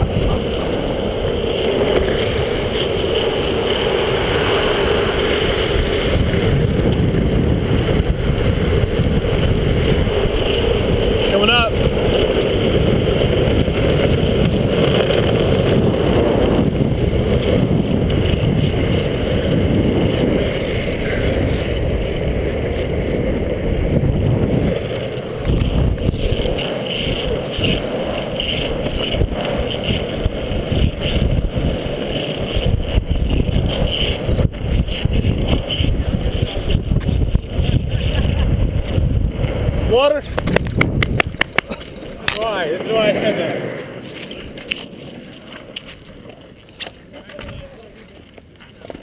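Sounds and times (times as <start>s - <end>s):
longboard wheels rolling on asphalt: 0.0s - 49.0s.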